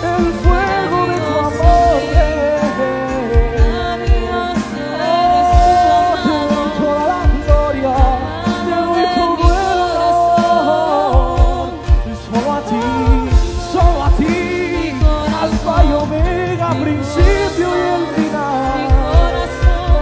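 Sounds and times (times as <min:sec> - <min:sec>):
drum kit with kick-drum beat: 0:00.0 - 0:20.0
keyboard: 0:00.0 - 0:20.0
woman singing: 0:00.0 - 0:20.0.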